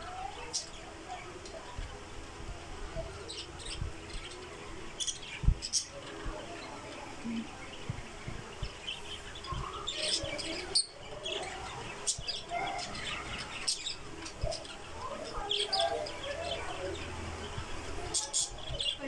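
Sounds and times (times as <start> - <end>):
budgerigars chirping and chattering: 0.1 - 19.0.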